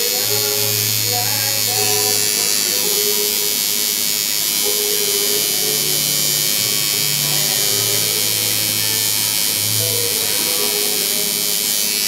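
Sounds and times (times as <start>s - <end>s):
tattoo machine buzzing: 0.0s - 12.0s.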